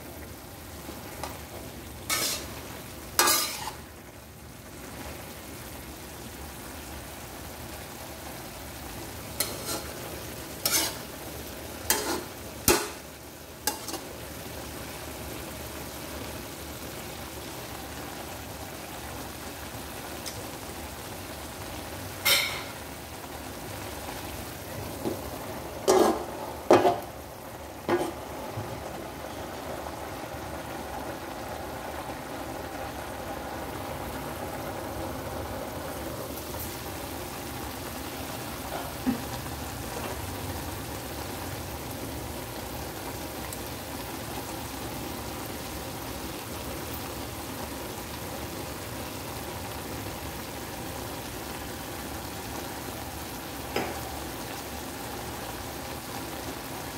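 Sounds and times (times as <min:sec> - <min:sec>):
food sizzling in a wok: 0:00.0 - 0:56.9.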